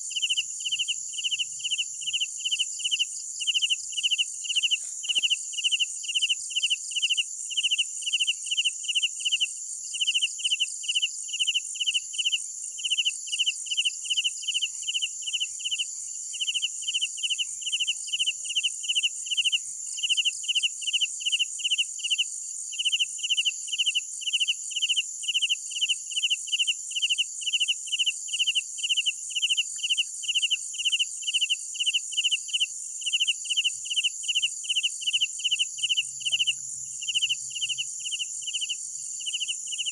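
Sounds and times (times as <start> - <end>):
cricket chirping: 0.0 - 39.9
high-pitched insect trill: 0.0 - 39.9.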